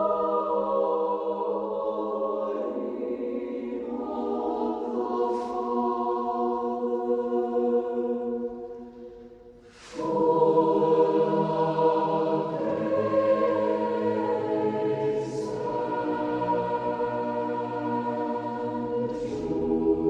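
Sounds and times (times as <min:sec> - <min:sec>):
choir singing a slow hymn: 0:00.0 - 0:20.0.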